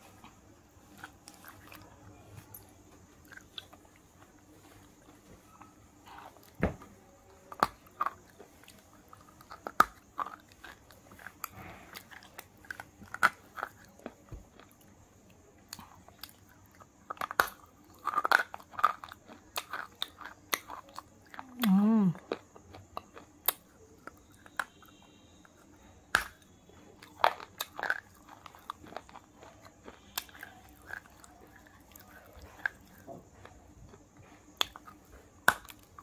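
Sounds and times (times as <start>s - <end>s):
chewing: 0.0s - 6.6s, 7.2s - 36.0s
crunchy bites: 6.0s - 36.0s.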